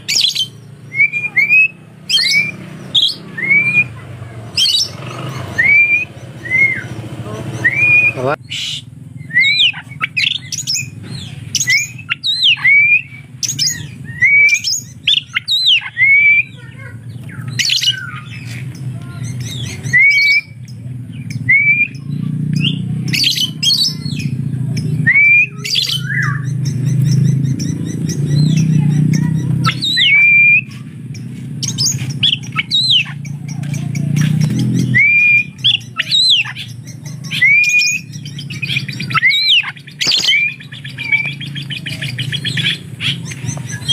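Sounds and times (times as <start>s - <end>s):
bird singing squawky chirps: 0.0s - 43.9s.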